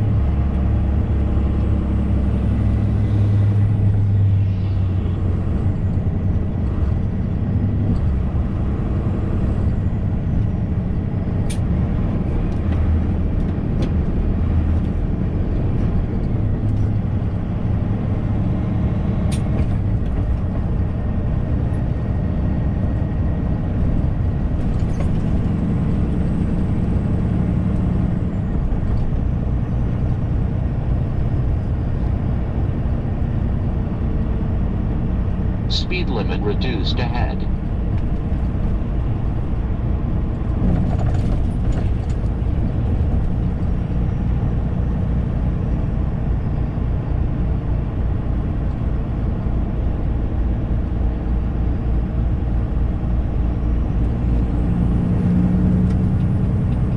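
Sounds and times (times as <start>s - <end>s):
road and tyre noise: 0.0s - 56.9s
truck engine drone: 0.0s - 56.9s.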